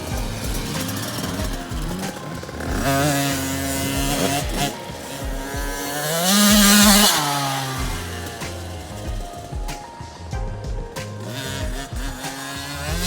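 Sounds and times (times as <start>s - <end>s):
motocross bike engine revving: 0.0s - 13.0s
music with steady beat: 0.0s - 13.0s.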